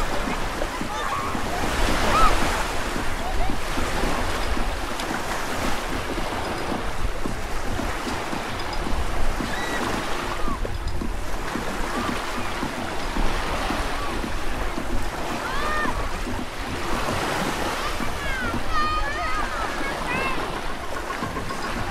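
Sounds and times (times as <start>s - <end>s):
small waves washing onto shore: 0.0s - 21.9s
wind rumbling on microphone: 0.0s - 21.9s.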